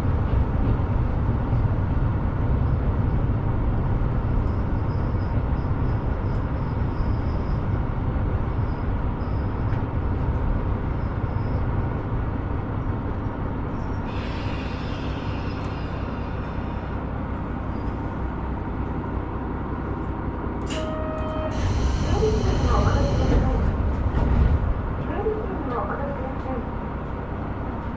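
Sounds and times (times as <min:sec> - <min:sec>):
railcar rumbling on rails: 0:00.0 - 0:27.9.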